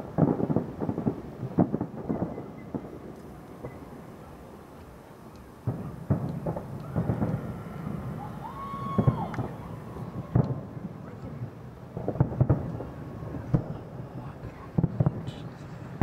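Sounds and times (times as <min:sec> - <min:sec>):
firework shells booming: 0:00.0 - 0:16.0.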